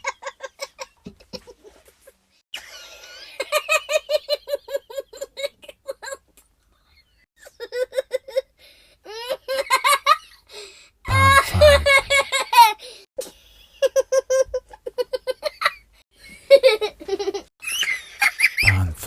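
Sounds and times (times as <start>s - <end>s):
young child giggling: 0.0s - 6.3s, 7.4s - 8.5s, 9.1s - 10.4s, 11.1s - 12.8s, 13.8s - 18.8s.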